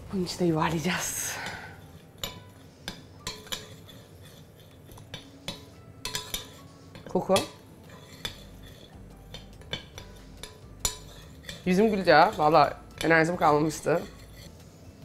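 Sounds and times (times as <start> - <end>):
spoon clinking and scraping bowl: 1.3 - 14.7.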